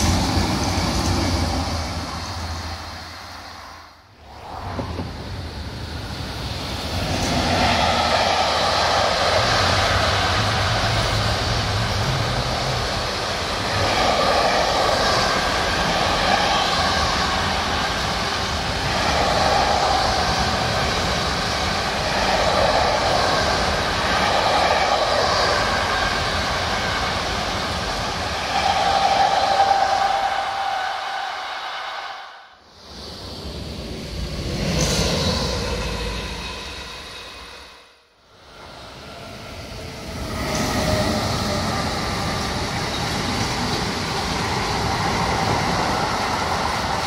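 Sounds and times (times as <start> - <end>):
freight train wheels rumbling: 0.0 - 37.6, 38.4 - 47.0
steady whine: 0.0 - 47.0.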